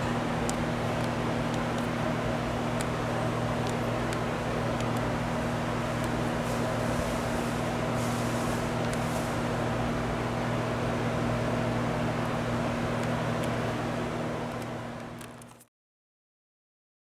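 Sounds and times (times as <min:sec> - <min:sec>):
ventilation hum: 0:00.0 - 0:15.6.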